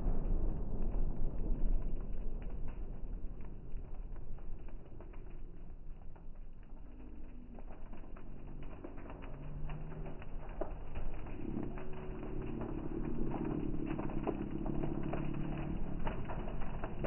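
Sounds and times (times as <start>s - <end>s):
fireworks crackling: 0.0s - 17.0s
low rumble: 0.0s - 17.0s.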